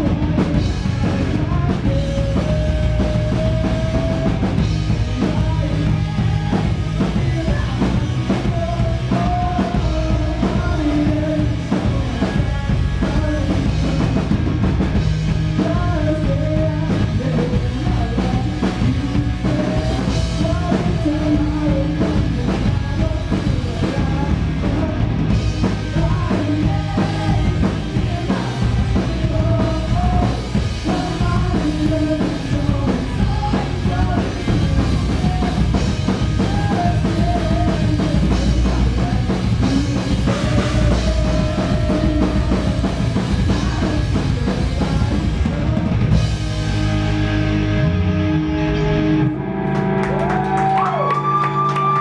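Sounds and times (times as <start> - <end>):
bass guitar: 0.0 - 52.0
drum kit: 0.0 - 52.0
electric guitars: 0.0 - 52.0
person singing: 0.0 - 52.0.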